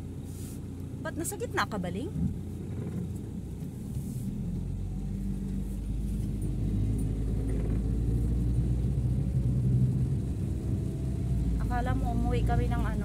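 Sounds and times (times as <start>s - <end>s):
car engine: 0.0s - 13.0s
road rumble inside car: 0.0s - 13.0s.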